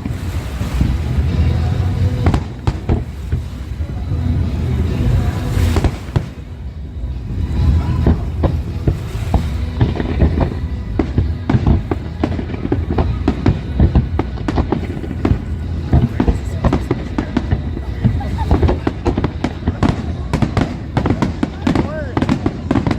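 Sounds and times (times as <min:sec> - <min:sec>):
fireworks bangs and crackles: 0:00.0 - 0:22.9.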